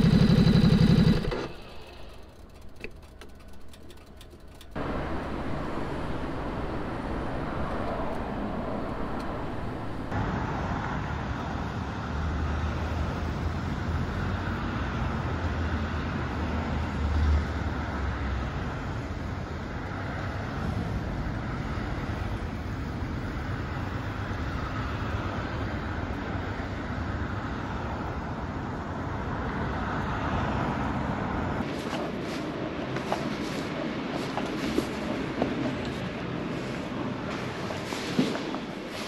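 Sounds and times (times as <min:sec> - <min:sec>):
passing vehicle engine rumble: 0:00.0 - 0:39.0
road traffic noise: 0:00.0 - 0:39.0.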